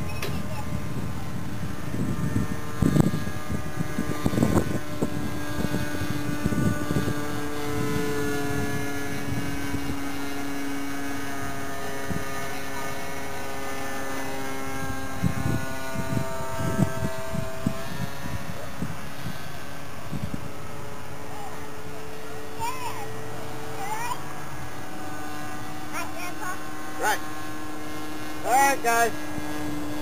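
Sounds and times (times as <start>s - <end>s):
model plane engine droning: 0.0s - 30.0s
wind buffeting microphone: 0.0s - 30.0s.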